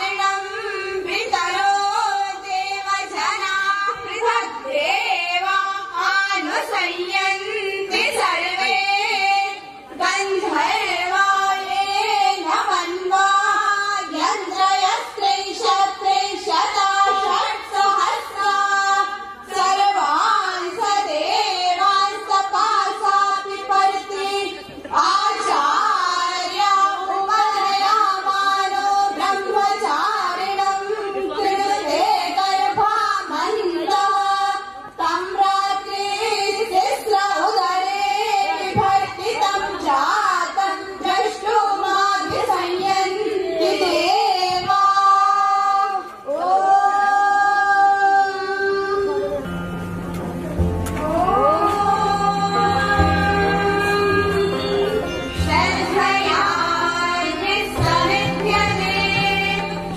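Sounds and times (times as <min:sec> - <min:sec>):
woman singing: 0:00.0 - 0:49.4, 0:51.0 - 0:59.9.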